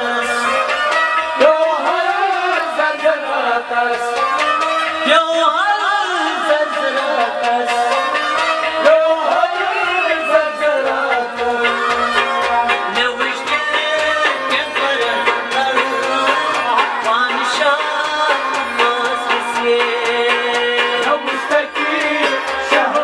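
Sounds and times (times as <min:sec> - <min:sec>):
held accompaniment tones: 0:00.0 - 0:23.0
man singing: 0:00.0 - 0:23.0
percussive beat: 0:00.0 - 0:23.0.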